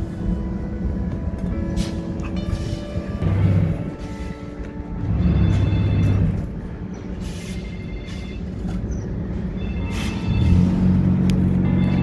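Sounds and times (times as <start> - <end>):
music: 0.0 - 12.0
vehicle engine rumbling: 0.0 - 12.0.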